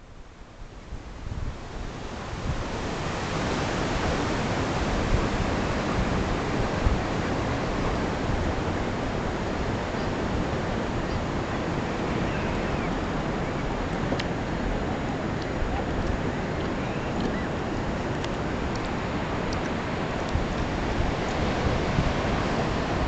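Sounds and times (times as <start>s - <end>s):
wind buffeting the microphone: 0.6s - 23.0s
ocean surf: 0.8s - 23.0s.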